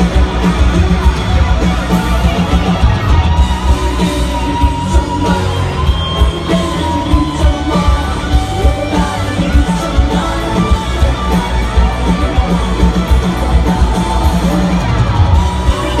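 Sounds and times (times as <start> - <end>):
electric guitar solo: 0.0 - 16.0
live rock band: 0.0 - 16.0.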